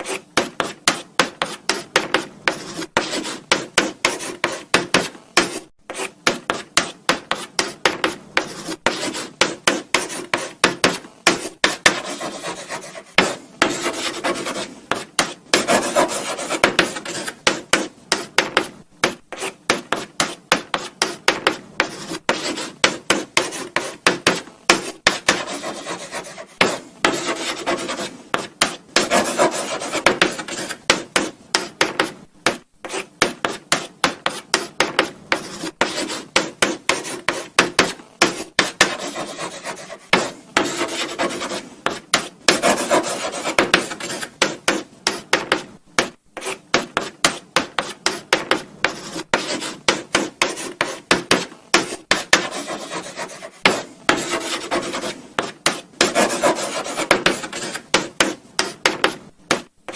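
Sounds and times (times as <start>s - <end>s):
chalk scratching on blackboard: 0.0s - 59.9s.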